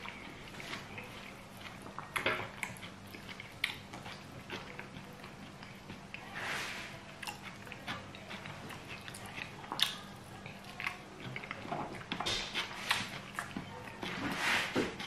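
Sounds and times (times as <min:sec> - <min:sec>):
man chewing with wet smacks: 0:00.0 - 0:15.0
soft squelches of food: 0:00.0 - 0:15.0.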